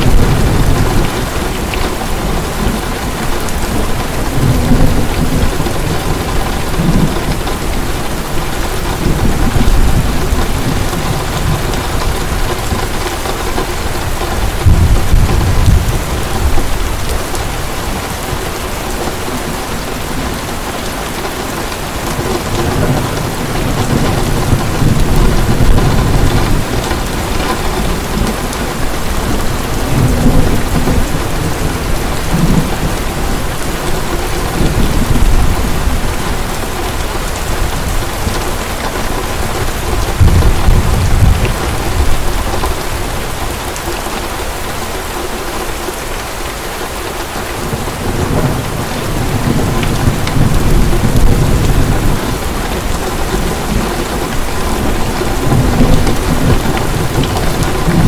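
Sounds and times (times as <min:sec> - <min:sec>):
distant thunder rumbles: 0:00.0 - 0:43.8, 0:47.6 - 0:58.0
heavy rain falling: 0:00.0 - 0:58.0.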